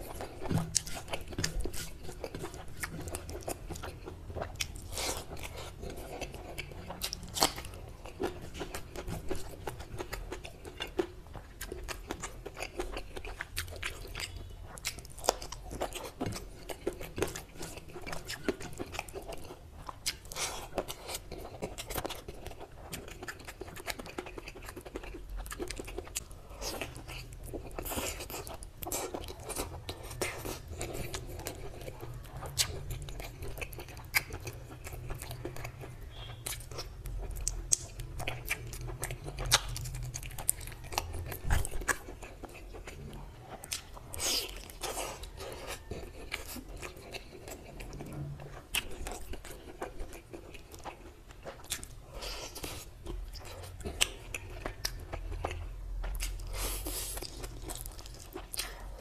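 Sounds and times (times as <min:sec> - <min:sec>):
chewing food: 0:00.0 - 0:59.0.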